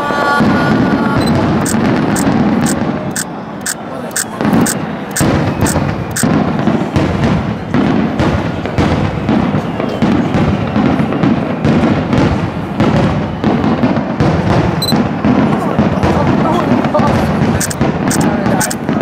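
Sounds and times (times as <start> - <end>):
firework crackling: 0.0 - 19.0
firework shells booming: 0.4 - 3.2, 4.2 - 19.0.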